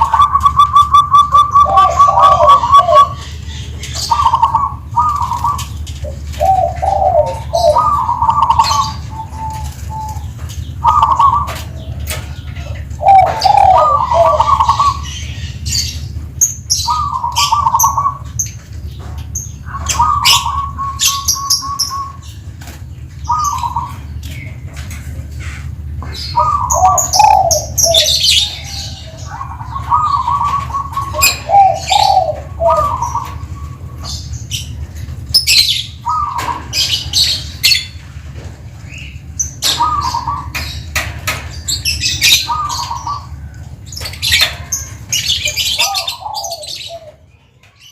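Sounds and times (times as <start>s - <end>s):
dove cooing: 0.0s - 15.8s, 16.4s - 38.0s, 39.0s - 41.4s, 42.0s - 47.3s
steady low hum: 0.0s - 47.8s
small birds chirping: 0.0s - 47.9s.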